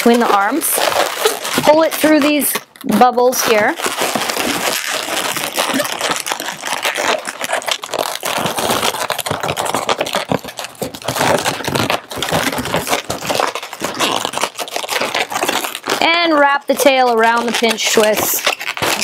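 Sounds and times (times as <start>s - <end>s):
balloons rubbing and scraping: 0.0s - 19.0s.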